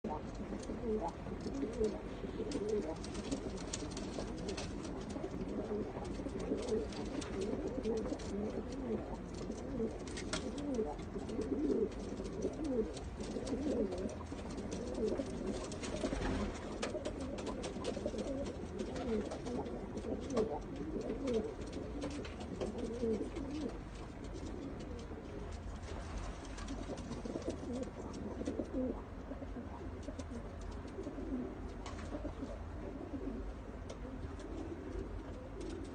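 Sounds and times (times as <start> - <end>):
pigeons cooing: 0.0 - 35.9
faint clicks: 0.2 - 28.9, 30.0 - 32.5, 33.8 - 35.9.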